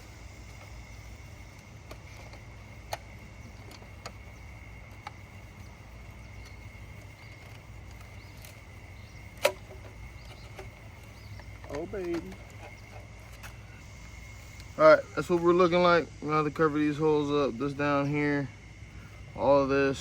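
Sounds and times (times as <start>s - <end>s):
faint high whine: 0.0s - 20.0s
steady low hum: 0.0s - 20.0s.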